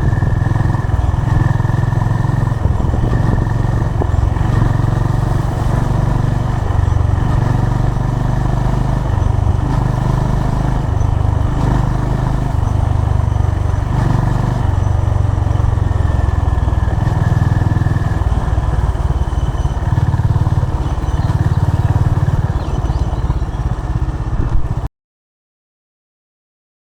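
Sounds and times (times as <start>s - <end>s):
motorcycle engine thumping: 0.0s - 24.9s.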